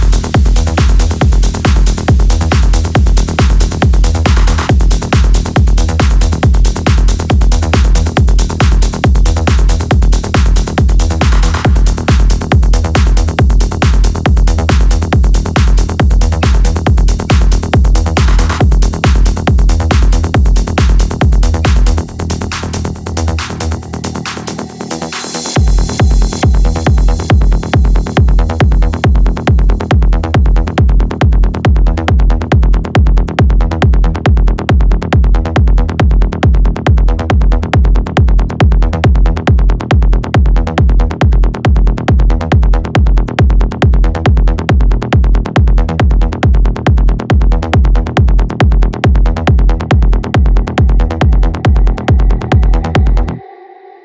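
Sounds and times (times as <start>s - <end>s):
trance music with kick drum: 0.0s - 54.0s.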